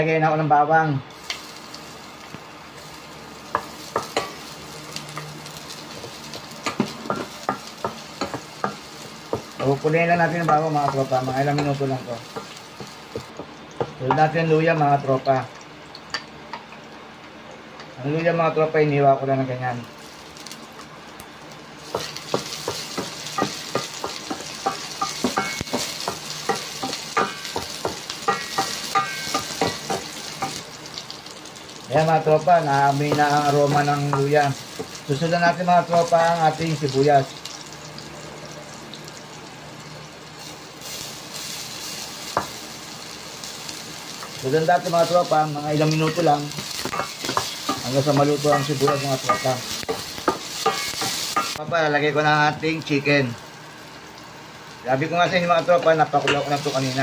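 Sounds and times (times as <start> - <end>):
garlic sizzling in hot oil: 1.1 - 57.0.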